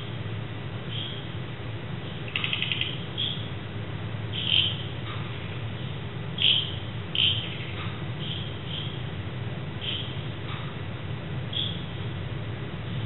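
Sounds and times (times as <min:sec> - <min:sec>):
birds chirping at night: 0:00.0 - 0:13.0
steady low hum: 0:00.0 - 0:13.0.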